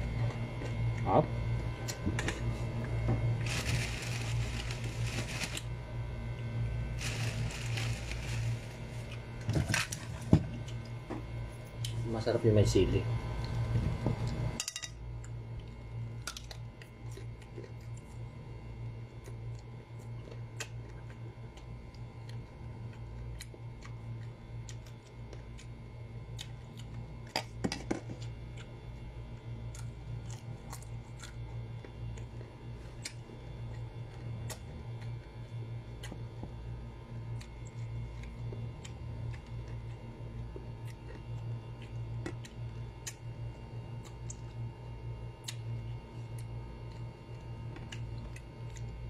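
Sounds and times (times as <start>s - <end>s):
low steady hum: 0.0s - 49.0s
crunchy chewing: 1.8s - 5.8s, 6.9s - 11.0s, 15.2s - 49.0s.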